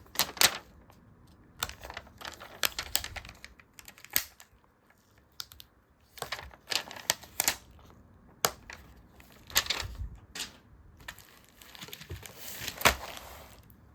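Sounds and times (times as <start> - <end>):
paper crinkling: 0.0 - 13.8.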